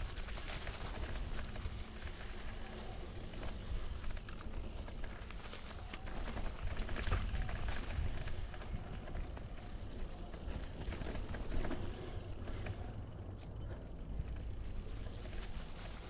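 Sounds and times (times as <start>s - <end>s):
bike rattles and clicks: 0.0s - 16.0s
bike tyre noise on dirt: 0.0s - 16.0s
wind rumble on microphone: 0.0s - 16.0s.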